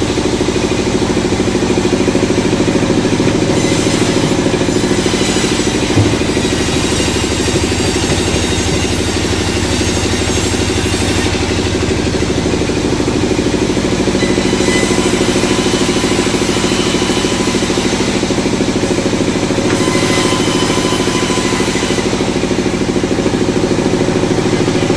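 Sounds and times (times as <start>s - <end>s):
sawmill engine running: 0.0s - 24.9s.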